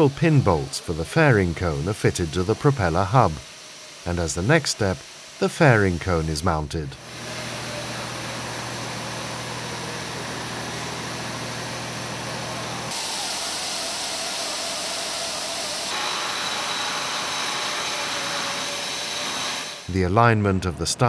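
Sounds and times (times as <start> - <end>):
machinery noise with hiss: 0.0 - 20.2.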